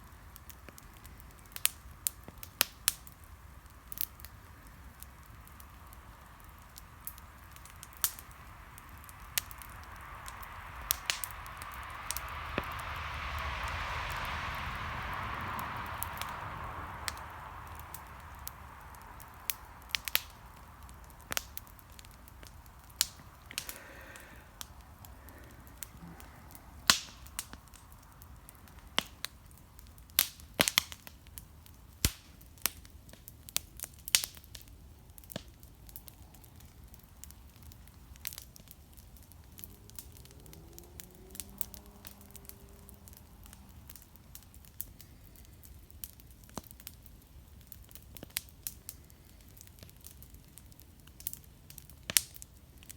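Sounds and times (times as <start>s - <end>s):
low steady hiss: 0.0s - 52.9s
wood fire crackling: 0.0s - 52.9s.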